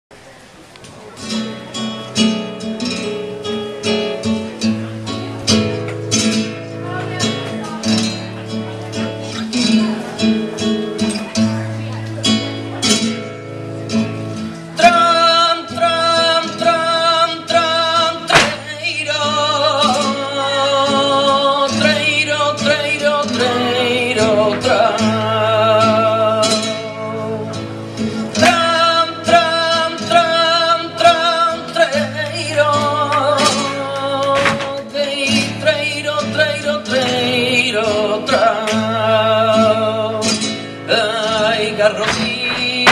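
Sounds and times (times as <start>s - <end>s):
guitar: 0.1s - 42.9s
person singing flamenco: 0.9s - 42.9s.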